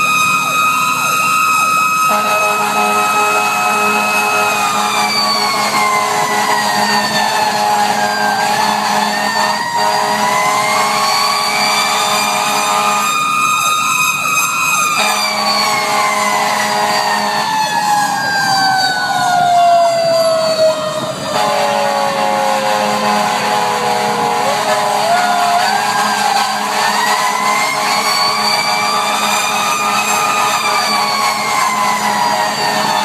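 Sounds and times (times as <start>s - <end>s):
mechanical siren wailing: 0.0s - 33.0s.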